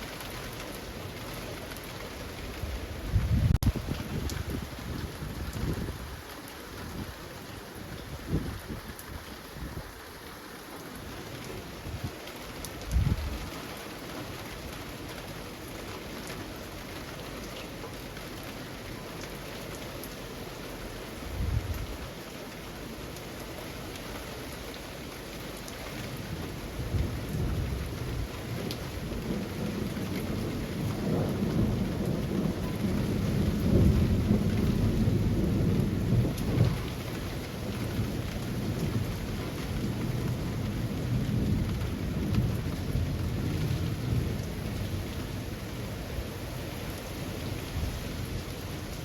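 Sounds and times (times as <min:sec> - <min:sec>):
rain falling through trees: 0:00.0 - 0:49.0.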